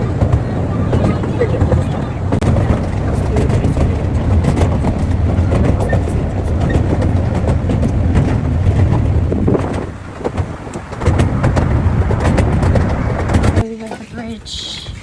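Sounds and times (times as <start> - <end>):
train carriages rumbling: 0.0 - 15.0
wheels clacking over rails: 0.0 - 15.0.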